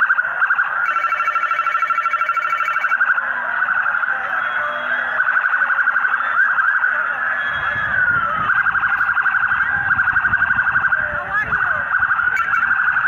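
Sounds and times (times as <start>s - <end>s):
sirens pulsing warble: 0.0s - 13.0s
sirens wailing: 0.0s - 13.0s.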